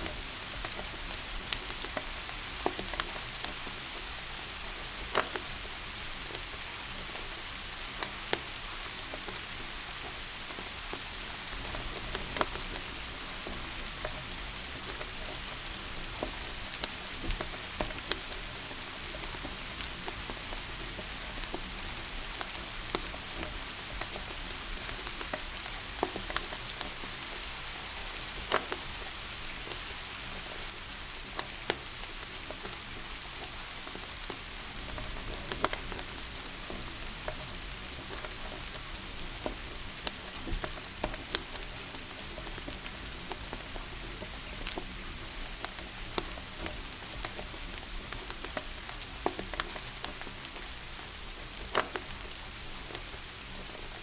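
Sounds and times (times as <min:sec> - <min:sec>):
steady rain hiss: 0:00.0 - 0:54.0
wood fire crackling: 0:00.0 - 0:54.0.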